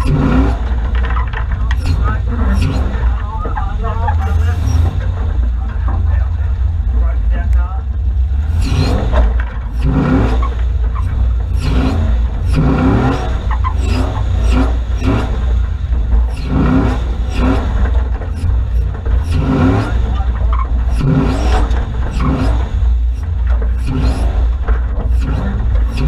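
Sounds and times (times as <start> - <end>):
vehicle jolting knocks: 0.0 - 6.2, 9.0 - 26.0
off-road vehicle engine revving: 0.0 - 26.0.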